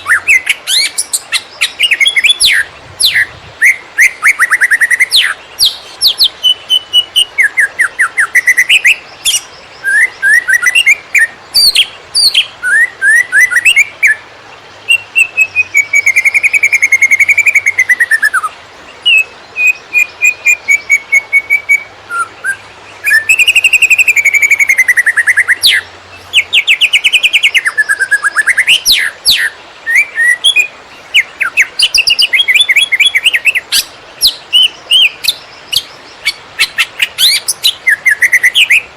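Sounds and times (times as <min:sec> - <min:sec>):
bird singing trills and whistles: 0:00.0 - 0:14.2, 0:14.8 - 0:38.9.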